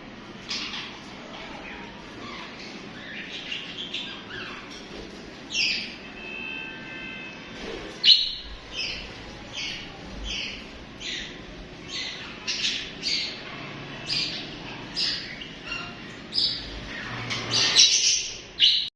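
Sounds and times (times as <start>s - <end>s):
budgerigars chirping: 0.4s - 6.0s, 8.0s - 18.9s.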